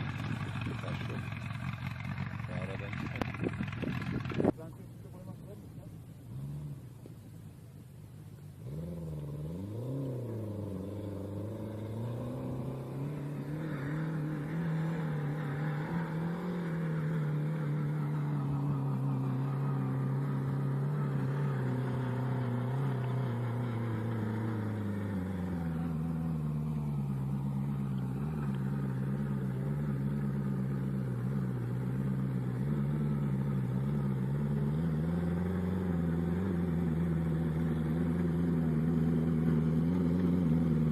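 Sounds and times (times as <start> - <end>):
turbocharged engine revving: 0.0 - 4.6, 8.6 - 40.9.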